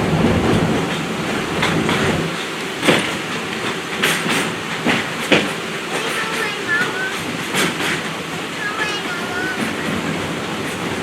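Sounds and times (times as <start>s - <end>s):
train rolling on track: 0.0s - 11.0s
wheels clacking and knocking: 0.0s - 11.0s.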